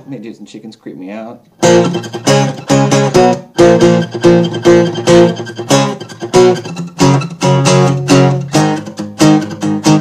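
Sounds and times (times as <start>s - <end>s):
guitar strumming chords: 1.5s - 10.0s.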